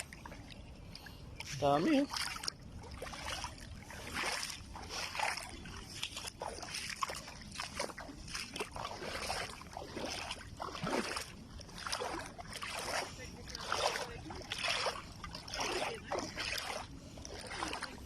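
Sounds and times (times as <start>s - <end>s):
small waves splashing at shoreline: 0.0s - 18.0s.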